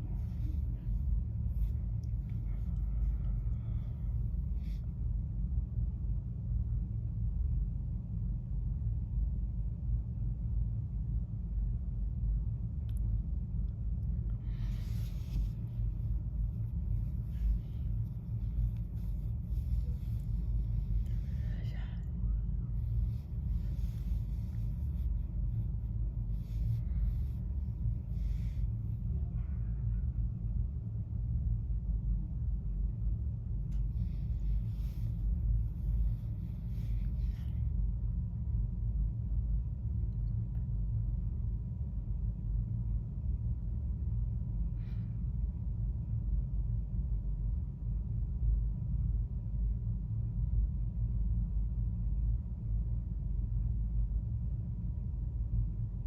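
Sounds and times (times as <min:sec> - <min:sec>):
low rumble: 0:00.0 - 0:56.0.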